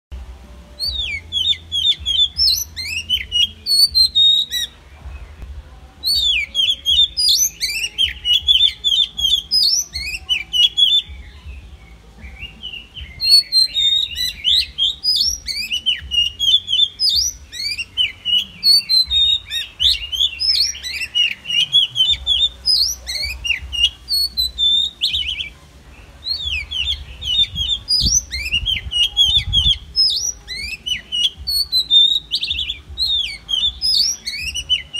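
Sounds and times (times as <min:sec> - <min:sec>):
magpie-robin singing: 0:00.6 - 0:34.9.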